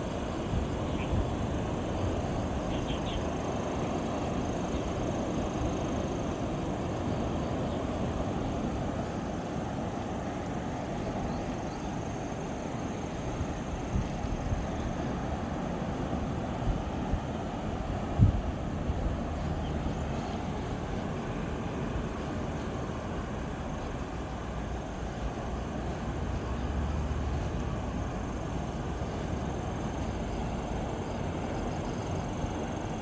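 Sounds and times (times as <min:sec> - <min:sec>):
sea surf rumbling: 0:00.0 - 0:33.0
wind: 0:00.0 - 0:33.0.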